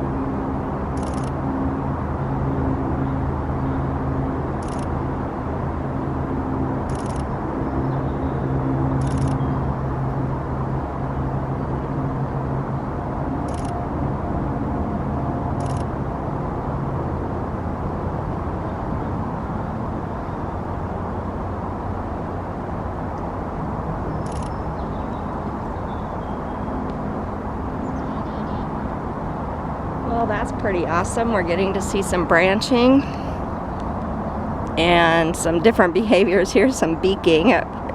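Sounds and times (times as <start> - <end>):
engine drone: 0.0 - 37.9
low rumble of road traffic: 0.0 - 37.9.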